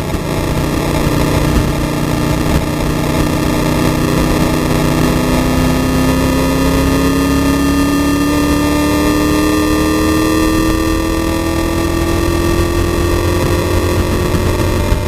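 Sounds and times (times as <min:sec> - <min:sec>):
race car engine accelerating: 0:00.0 - 0:15.0
wind and road noise: 0:00.0 - 0:15.0.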